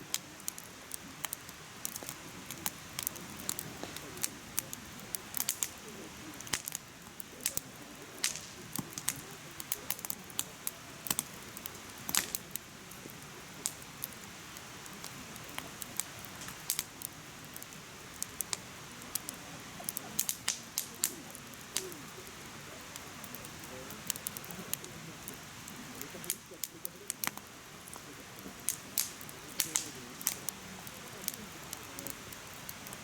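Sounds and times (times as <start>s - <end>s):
firewood crackling and popping: 0.0s - 33.0s
soft hiss of flames: 0.0s - 33.0s.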